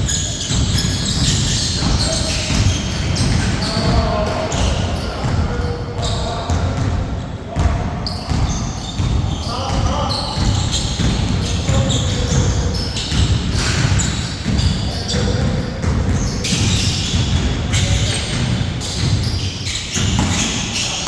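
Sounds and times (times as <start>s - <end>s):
basketball dribbling in hall: 0.0s - 21.0s.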